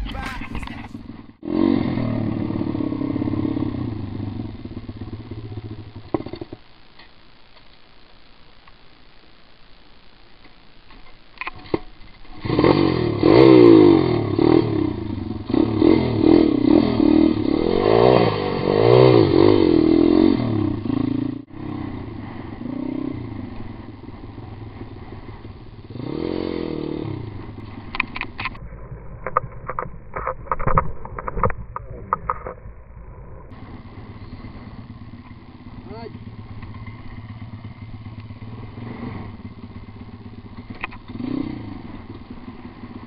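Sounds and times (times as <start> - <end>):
pit bike engine revving: 0.0 - 6.6, 12.3 - 43.0.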